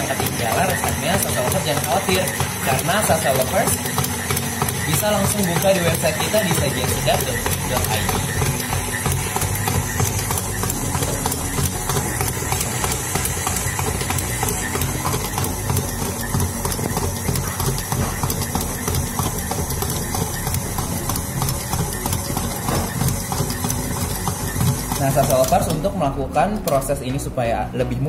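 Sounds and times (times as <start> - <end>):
dough hook knocking in bowl: 0.0 - 25.9
stand mixer motor running: 0.0 - 27.0.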